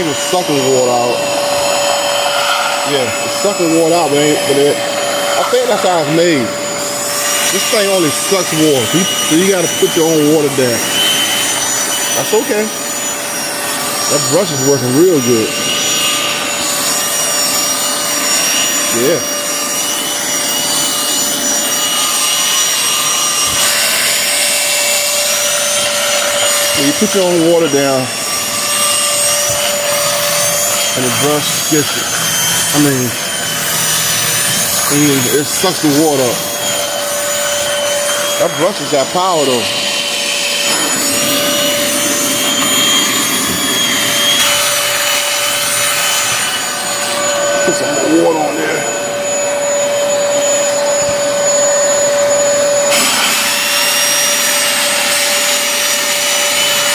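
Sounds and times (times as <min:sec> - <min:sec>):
carpet washer suction noise: 0:00.0 - 0:56.9.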